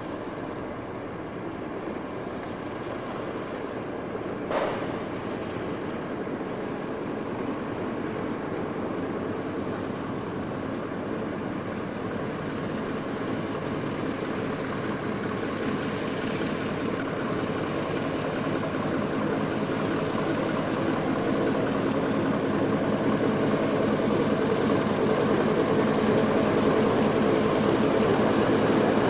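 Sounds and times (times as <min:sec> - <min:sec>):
biplane radial engine running: 0:00.0 - 0:29.0.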